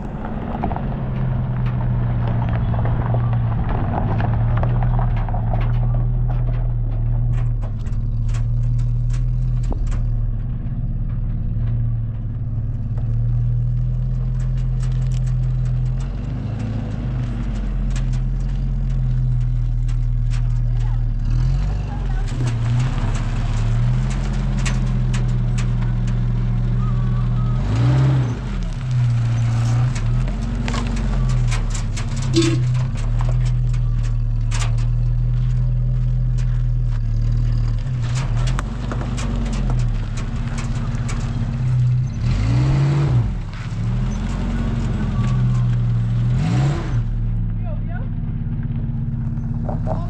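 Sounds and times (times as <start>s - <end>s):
clicks and knocks: 0.1s - 26.8s, 27.8s - 45.9s.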